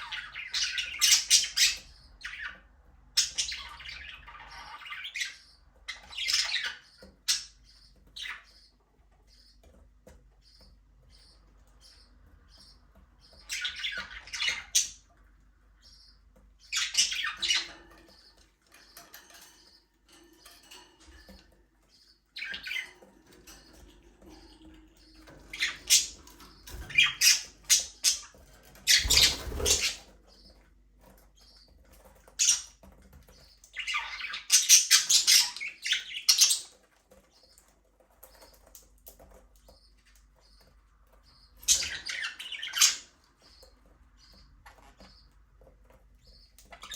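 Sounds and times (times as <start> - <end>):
budgerigars chirping and squawking: 0.0 - 46.9.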